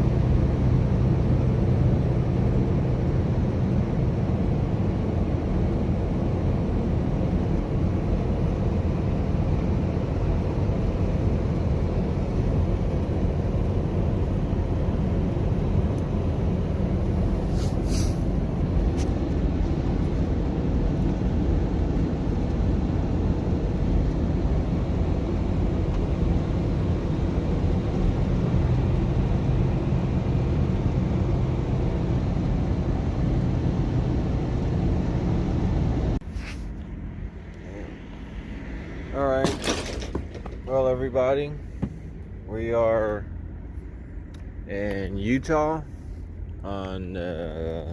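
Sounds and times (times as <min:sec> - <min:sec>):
vehicle engine and road rumble: 0:00.0 - 0:47.9.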